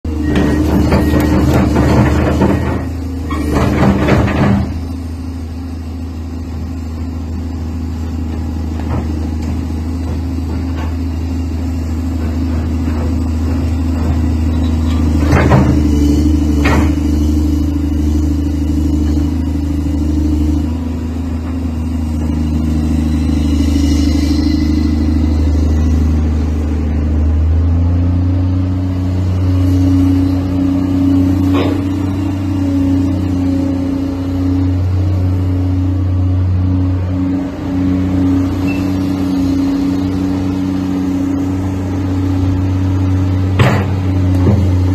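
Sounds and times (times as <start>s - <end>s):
excavator diesel engine running: 0.0s - 44.9s
steel tracks clanking: 0.1s - 5.2s, 8.0s - 44.9s.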